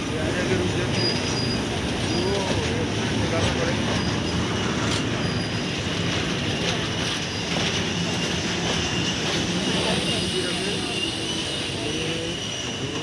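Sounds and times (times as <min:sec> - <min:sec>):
train wagons rumbling: 0:00.0 - 0:13.0
high wheel squeal: 0:00.2 - 0:13.0.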